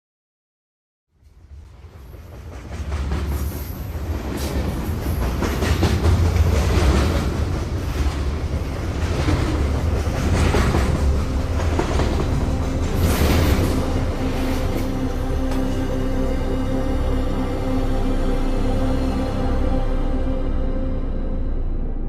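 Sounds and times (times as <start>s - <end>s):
train rumbling: 1.1s - 22.0s.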